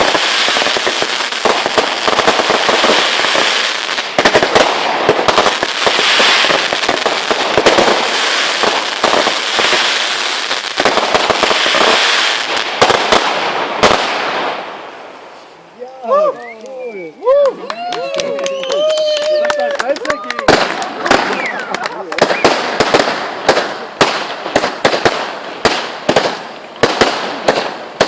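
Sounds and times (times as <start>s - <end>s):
loud firework bangs: 0.0s - 14.9s, 20.4s - 28.0s
fireworks crackling: 0.0s - 28.0s.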